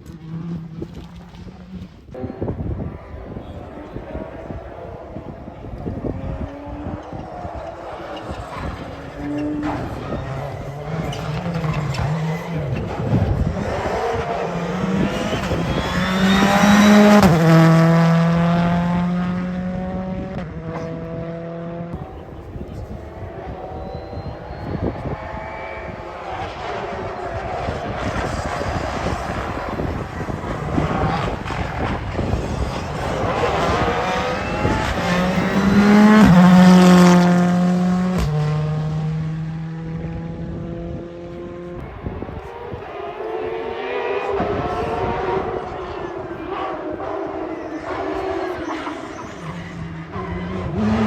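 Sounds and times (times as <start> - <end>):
rally car passing at speed: 0.0 - 51.0.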